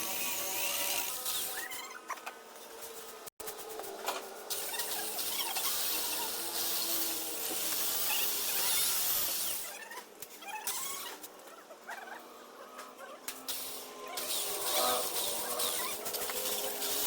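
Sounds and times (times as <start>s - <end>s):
gritty rubbing with squeaks: 0.0s - 17.0s.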